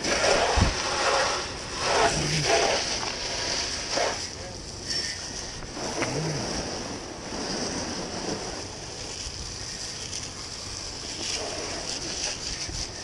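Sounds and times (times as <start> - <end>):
hose water spraying on metal hull: 0.0 - 13.0.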